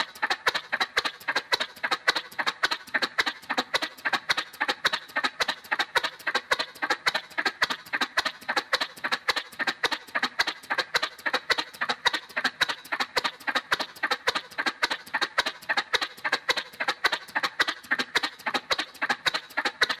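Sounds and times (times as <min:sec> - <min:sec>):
cartoon motorcycle clicky pulses: 0:00.0 - 0:20.0.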